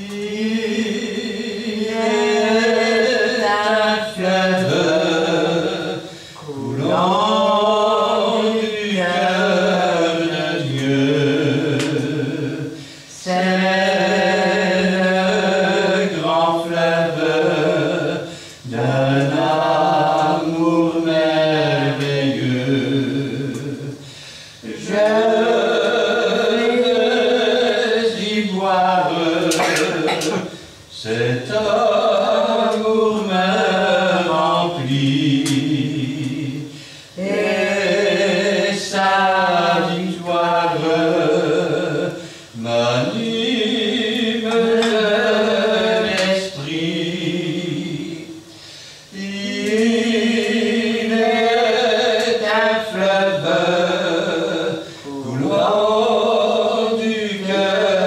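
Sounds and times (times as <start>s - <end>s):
hymn sung slowly: 0.0s - 58.0s.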